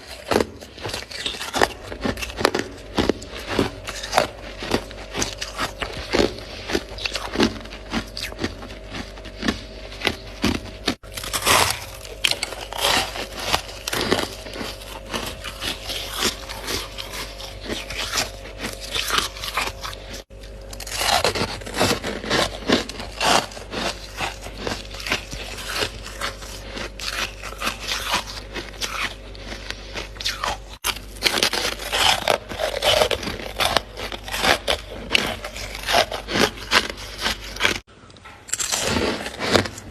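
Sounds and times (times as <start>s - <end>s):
frost being scraped and crunched: 0.0s - 37.9s, 38.5s - 39.9s.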